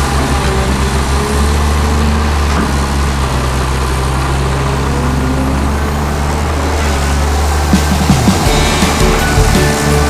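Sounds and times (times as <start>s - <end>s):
diesel engine humming: 0.0s - 10.0s.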